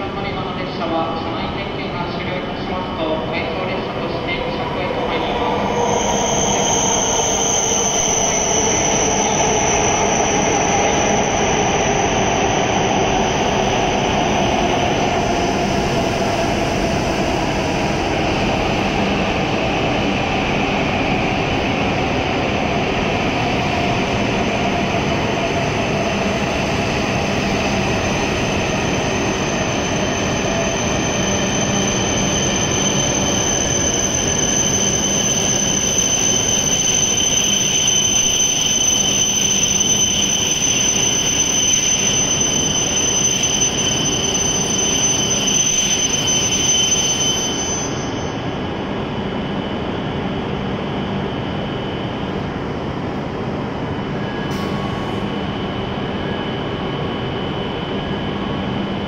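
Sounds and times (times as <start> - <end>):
high steady squeal: 0.1 - 52.4.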